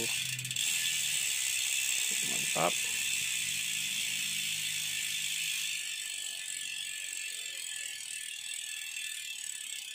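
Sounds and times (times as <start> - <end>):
bicycle freehub ratcheting: 0.0 - 9.9.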